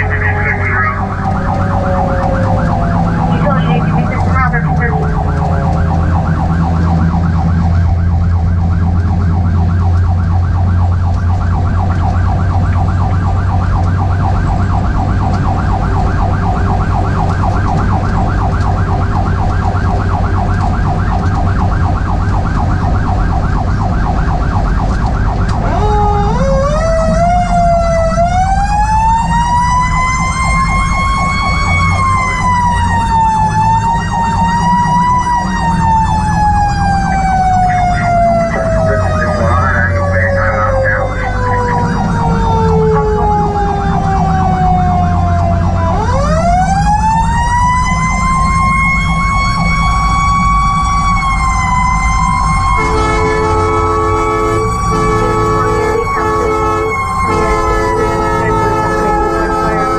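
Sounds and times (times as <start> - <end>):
electronic siren warbling: 0.0 - 59.9
engine and road drone: 0.0 - 59.9
mechanical siren wailing: 0.0 - 59.9.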